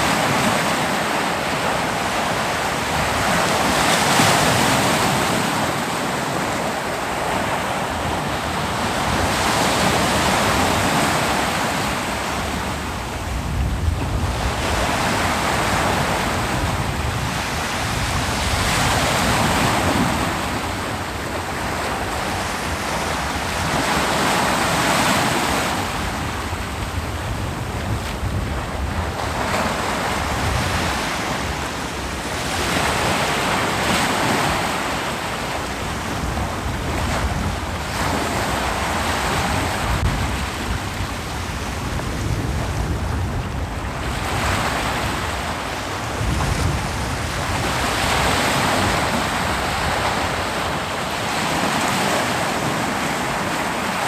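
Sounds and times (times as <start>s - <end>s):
low rumble of sea: 0.0s - 54.0s
ocean waves breaking on beach: 0.0s - 54.0s.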